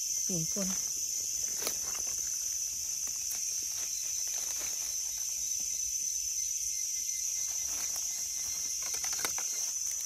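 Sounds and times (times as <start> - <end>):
insects buzzing: 0.0 - 10.0
rustles and ticks in leaf litter: 0.0 - 10.0.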